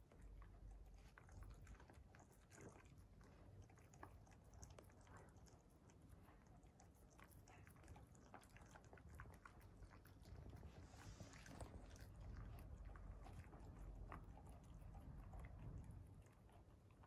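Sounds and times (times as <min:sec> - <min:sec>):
dogs chewing and crunching: 0:00.0 - 0:17.0.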